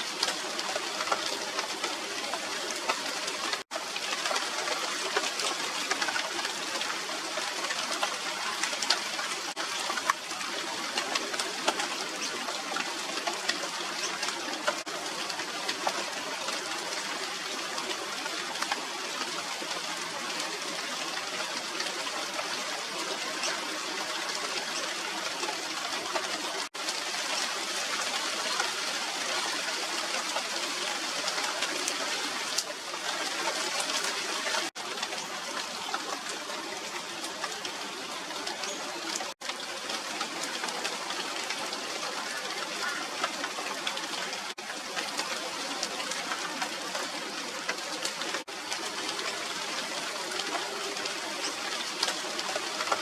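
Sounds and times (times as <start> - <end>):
rain falling on leaves: 0.0 - 53.0.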